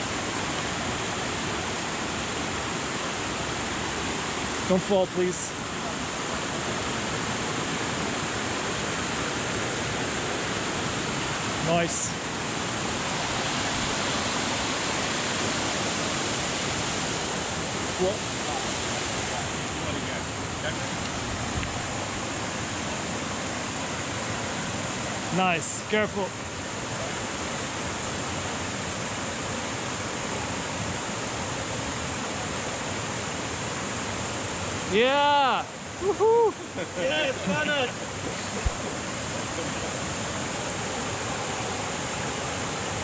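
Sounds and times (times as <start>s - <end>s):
water cascading: 0.0s - 43.0s.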